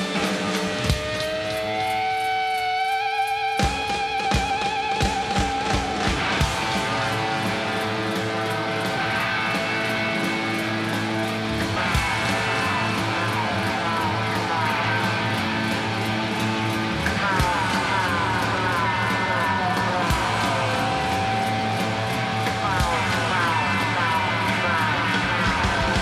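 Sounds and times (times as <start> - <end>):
electric guitar runs: 0.0 - 26.0
live rock band music: 0.0 - 26.0.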